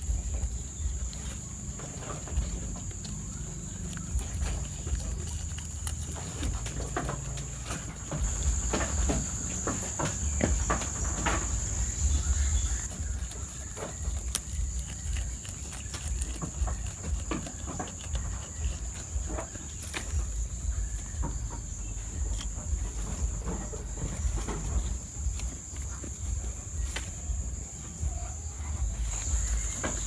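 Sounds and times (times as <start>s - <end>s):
goat chewing leaves: 0.0s - 30.0s.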